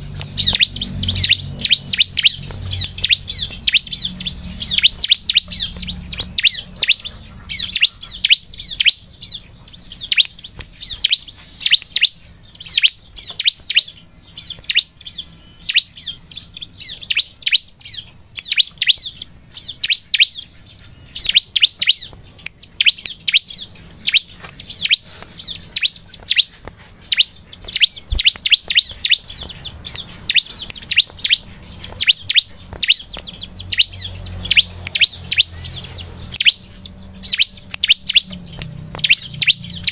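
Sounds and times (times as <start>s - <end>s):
bird high sharp chirps: 0.0s - 39.9s.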